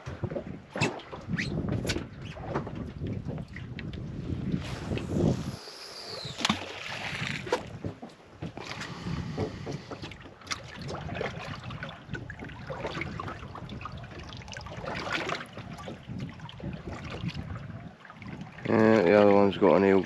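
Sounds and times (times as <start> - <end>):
water lapping against hull: 0.0 - 20.0.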